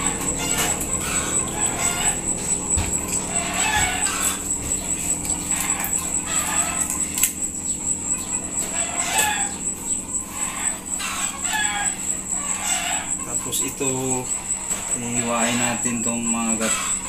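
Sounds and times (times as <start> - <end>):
fowl clucking: 0.0 - 17.0
high-pitched whine: 0.0 - 17.0.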